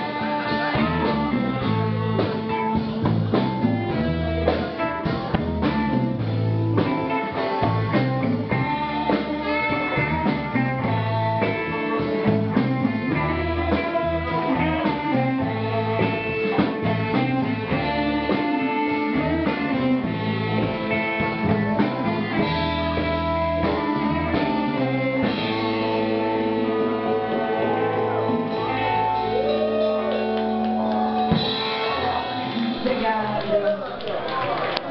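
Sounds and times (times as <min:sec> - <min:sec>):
bass line: 0:00.0 - 0:33.6
live blues band playing: 0:00.0 - 0:33.6
drums: 0:00.0 - 0:34.9
guitar: 0:00.0 - 0:34.9.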